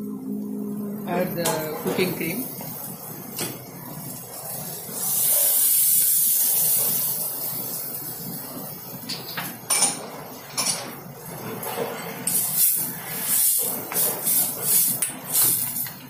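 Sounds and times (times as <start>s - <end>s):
cream sizzling in hot pan: 2.1s - 16.0s.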